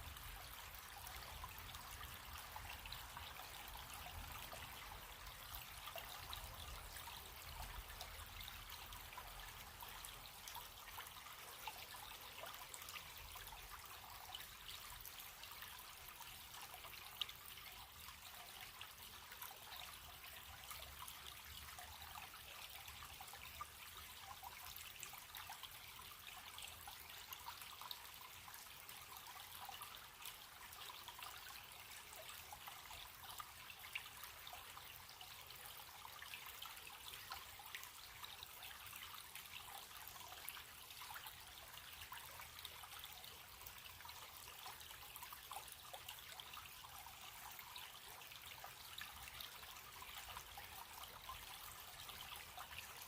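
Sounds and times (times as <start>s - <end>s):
stream trickling: 0.0s - 53.0s.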